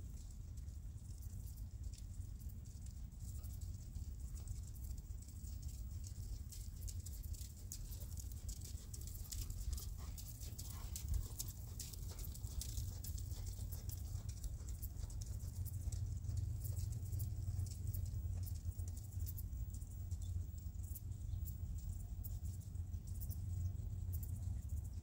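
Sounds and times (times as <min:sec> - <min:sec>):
horse hoofbeats on sand: 0:00.2 - 0:25.0.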